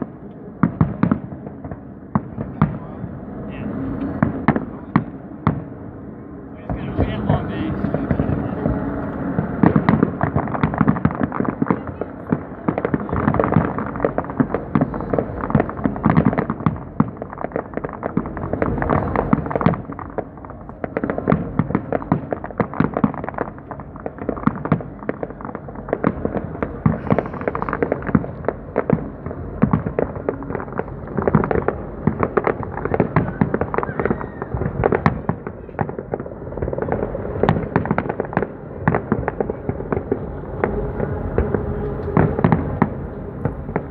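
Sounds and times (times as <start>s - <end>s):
fireworks bangs and crackling: 0.0s - 6.0s, 6.6s - 43.9s.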